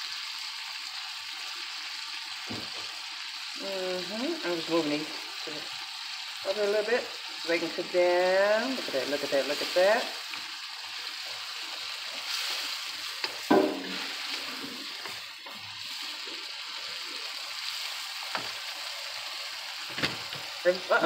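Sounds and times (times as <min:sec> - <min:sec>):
vegetables sizzling in a skillet: 0:00.0 - 0:21.0.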